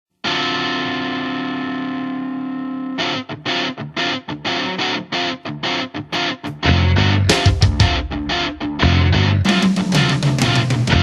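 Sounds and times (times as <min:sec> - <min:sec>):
distorted electric guitar chords: 0:00.2 - 0:11.0.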